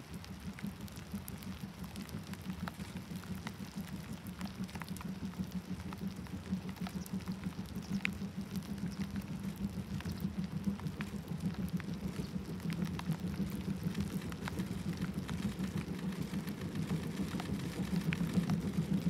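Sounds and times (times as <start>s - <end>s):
rain falling: 0.0s - 19.0s
raindrops ticking: 0.0s - 19.0s.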